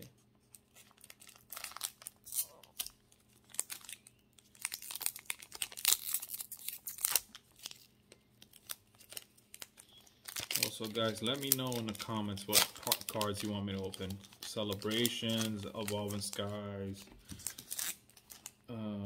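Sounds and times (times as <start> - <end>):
foil pack crinkling and tearing: 0.4 - 18.6.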